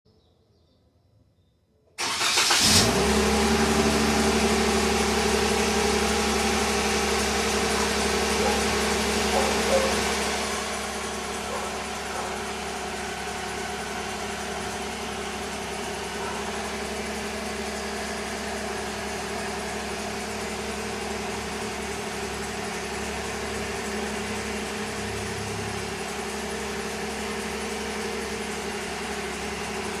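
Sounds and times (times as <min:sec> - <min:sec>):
car engine starting and idling: 0:02.0 - 0:30.0.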